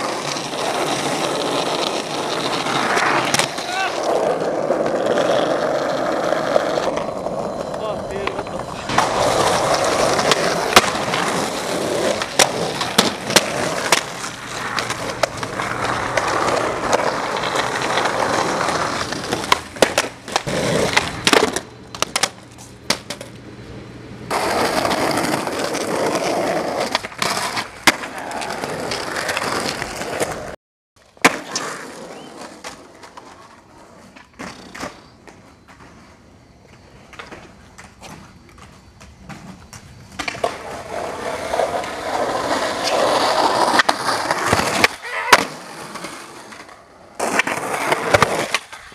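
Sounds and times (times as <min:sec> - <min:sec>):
skateboard clacking and landing: 0:00.0 - 0:23.5, 0:31.1 - 0:48.9
skateboard wheels rolling on pavement: 0:00.0 - 0:48.9.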